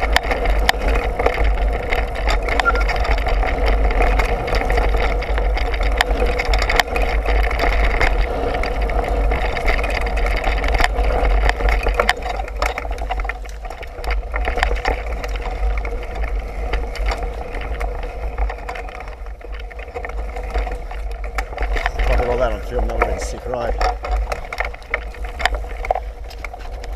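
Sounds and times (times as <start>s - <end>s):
bike rattling and knocking: 0.0s - 26.9s
tyres running on dirt: 0.0s - 26.9s
wind rumbling on microphone: 0.0s - 26.9s.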